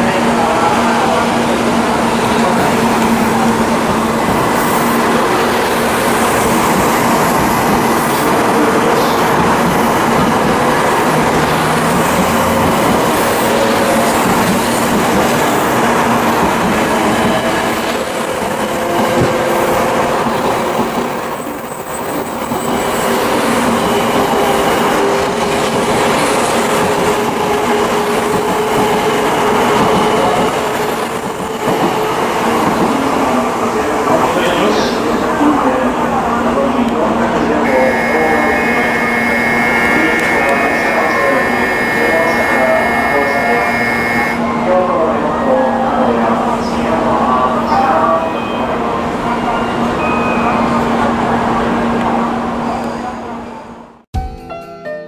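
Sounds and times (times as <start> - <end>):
train wheels rushing on rail: 0.0 - 50.0.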